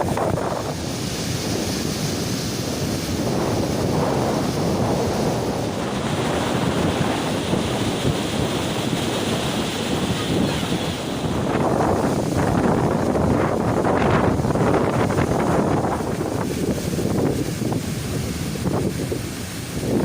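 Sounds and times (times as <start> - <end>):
waves washing onto shore: 0.0 - 20.0
wind buffeting microphone: 0.0 - 20.0.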